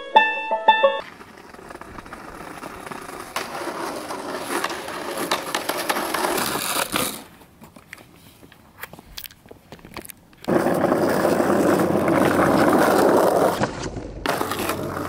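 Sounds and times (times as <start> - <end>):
skateboard wheels on asphalt: 0.7 - 15.0
skateboard clacks: 1.0 - 8.1, 9.8 - 15.0.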